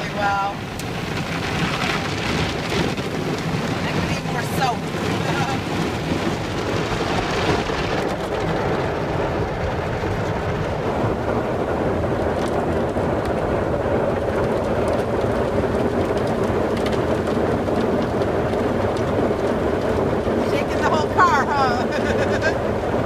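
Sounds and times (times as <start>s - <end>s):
car wash water spray: 0.0s - 23.0s.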